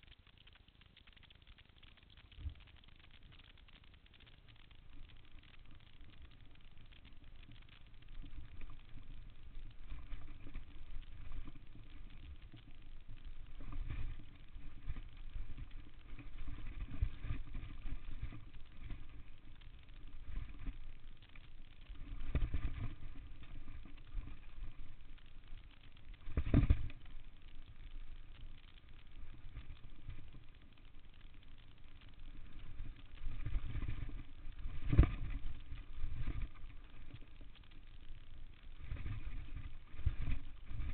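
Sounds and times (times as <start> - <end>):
wind: 0.0 - 40.9.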